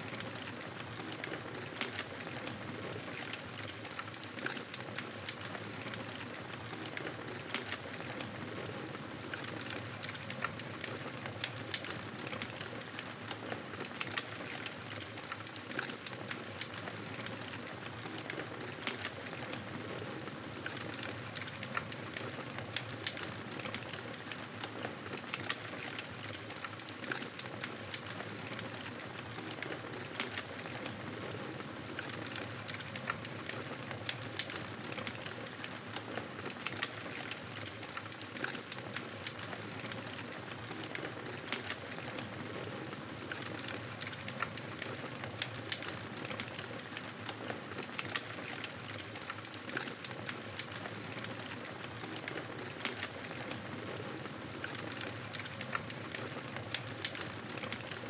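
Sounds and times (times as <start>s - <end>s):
soft hiss of burning: 0.0s - 58.0s
wood fire crackling: 0.0s - 58.0s.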